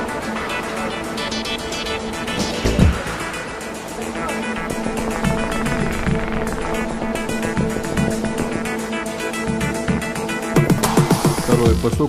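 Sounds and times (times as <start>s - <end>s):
background music with steady pulse: 0.0s - 12.0s.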